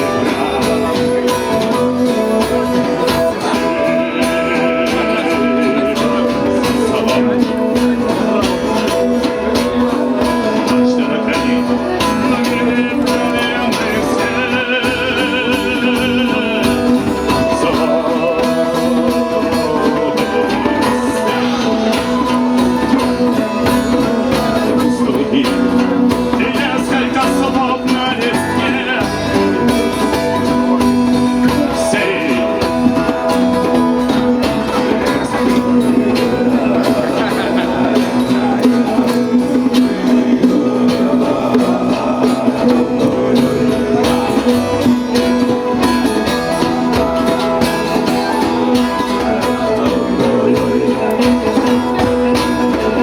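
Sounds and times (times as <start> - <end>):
person singing: 0.0 - 53.0
plucked guitar: 0.0 - 53.0.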